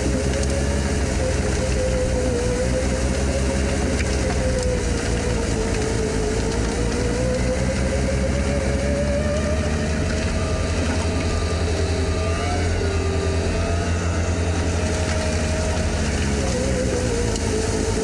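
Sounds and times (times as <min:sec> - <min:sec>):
diesel engine running: 0:00.0 - 0:18.0
engine whine rising in pitch: 0:00.0 - 0:18.0.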